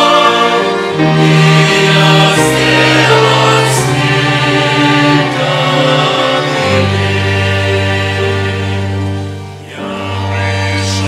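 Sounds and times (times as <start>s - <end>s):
violins: 0.0s - 11.0s
voices singing a hymn: 0.0s - 11.0s.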